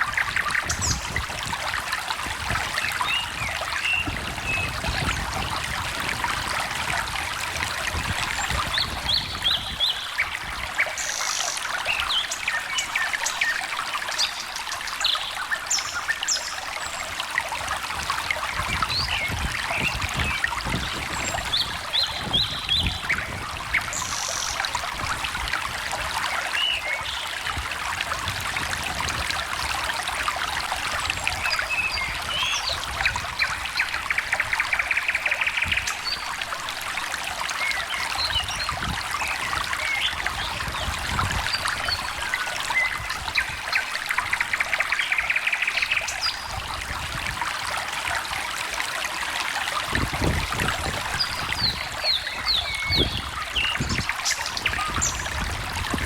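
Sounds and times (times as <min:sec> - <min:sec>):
stream trickling and gurgling: 0:00.0 - 0:56.0.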